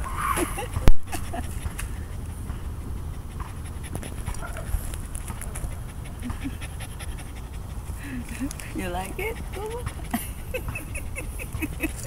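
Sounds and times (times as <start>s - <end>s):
low microphone rumble: 0.0s - 12.0s
puppy panting: 0.0s - 12.0s.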